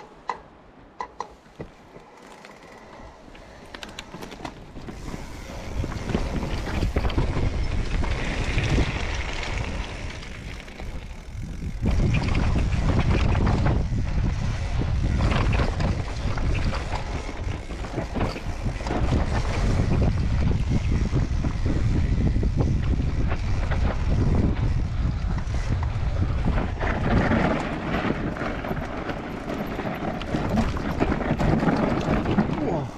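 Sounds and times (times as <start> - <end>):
bike clattering: 0.0 - 32.9
wind buffeting microphone: 2.7 - 32.9.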